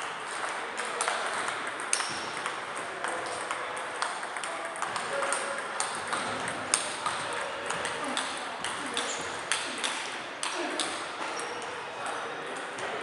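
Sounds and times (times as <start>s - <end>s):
table tennis balls clicking: 0.3s - 11.6s.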